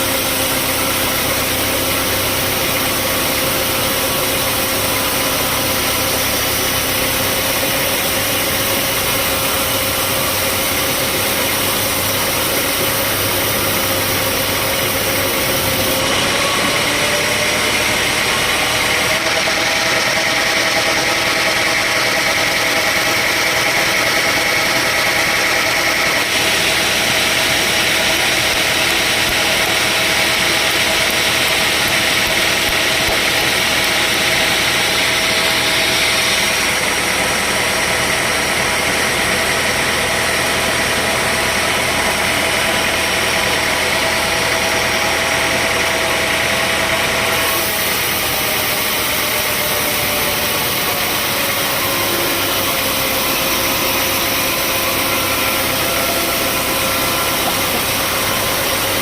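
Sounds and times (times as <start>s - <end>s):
sawmill machinery hum and whine: 0.0s - 59.0s.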